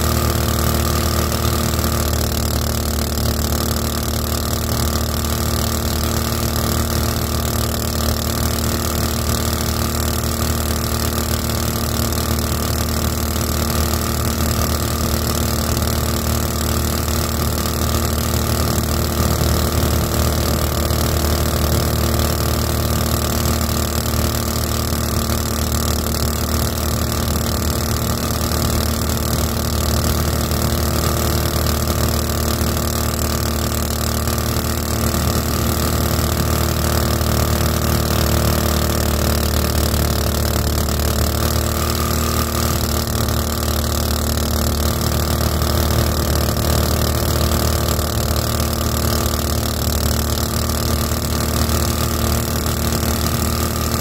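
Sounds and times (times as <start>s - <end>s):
small boat motor running: 0.0s - 54.0s.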